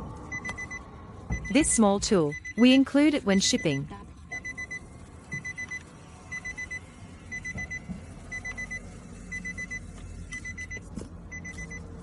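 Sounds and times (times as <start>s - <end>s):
electronic alarm beeping: 0.3s - 11.9s.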